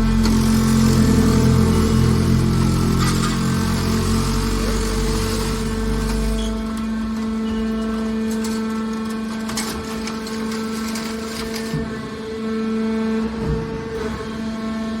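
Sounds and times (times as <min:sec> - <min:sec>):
baler power unit humming: 0:00.0 - 0:15.0.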